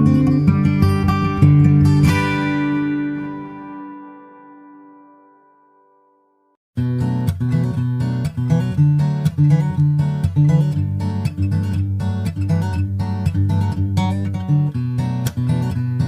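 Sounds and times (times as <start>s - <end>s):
strummed acoustic guitar: 0.0s - 5.4s, 6.8s - 16.0s.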